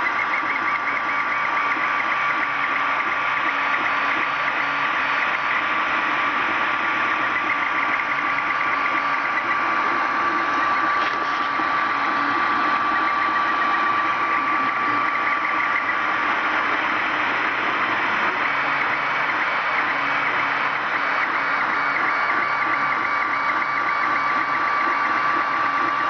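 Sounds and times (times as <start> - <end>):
printer fans whirring: 0.0 - 26.0
stepper motors chirping: 0.0 - 26.0.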